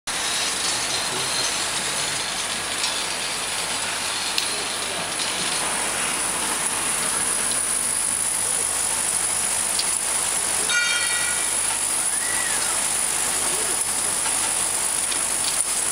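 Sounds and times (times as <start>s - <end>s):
high hiss of turntable and conveyor: 3.1s - 15.9s.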